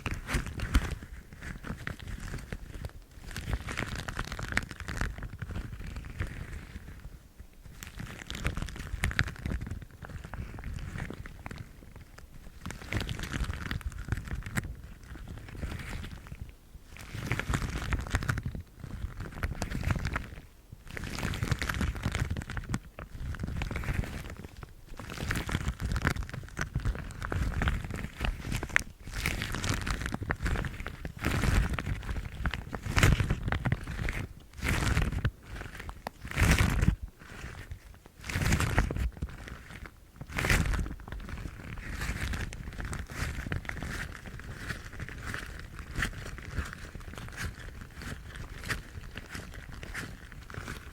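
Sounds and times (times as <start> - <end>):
rubber gloves rubbed and squeezed: 0.0 - 50.9.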